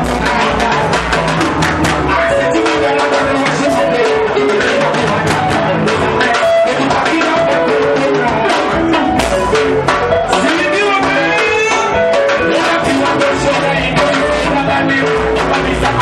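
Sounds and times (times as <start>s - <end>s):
bass guitar: 0.0s - 16.0s
steady drum beat: 0.0s - 16.0s.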